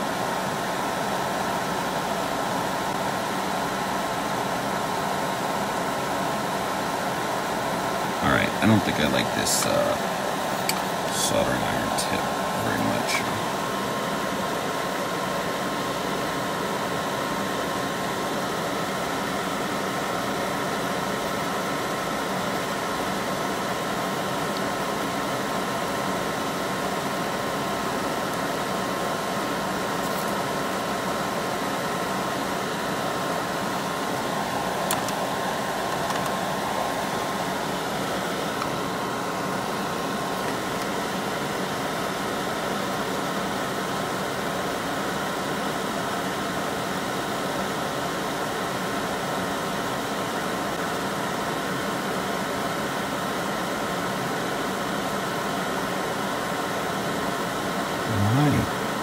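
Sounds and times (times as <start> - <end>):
vent fan humming: 0.0 - 59.0.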